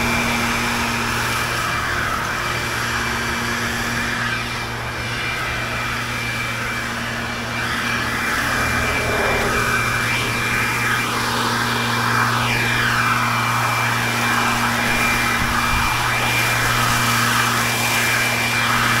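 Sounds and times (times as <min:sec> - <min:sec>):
leaf blower running: 0:00.0 - 0:19.0.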